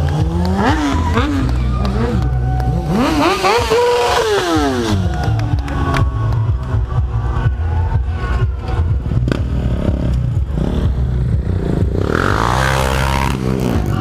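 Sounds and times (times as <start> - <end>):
motorcycle engine revving: 0.0 - 7.4, 8.4 - 14.0.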